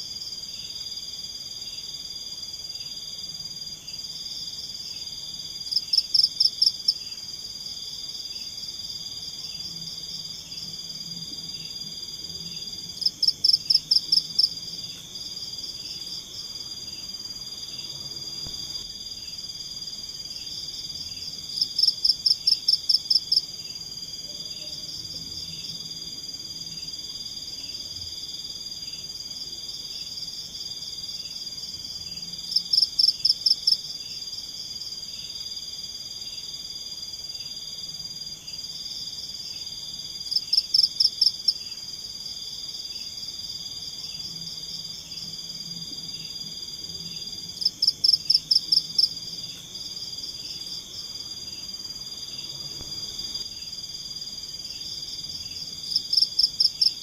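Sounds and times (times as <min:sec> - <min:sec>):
insects and frogs trilling: 0:00.0 - 0:57.0.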